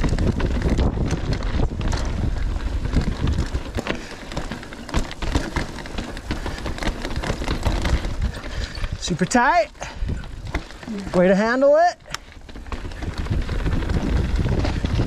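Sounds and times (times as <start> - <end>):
bike rattling over rocks: 0.0 - 15.0
wind buffeting microphone: 0.0 - 15.0.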